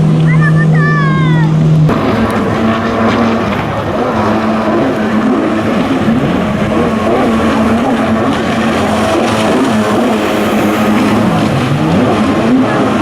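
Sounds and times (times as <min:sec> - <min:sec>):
jet ski engines: 0:00.0 - 0:13.0.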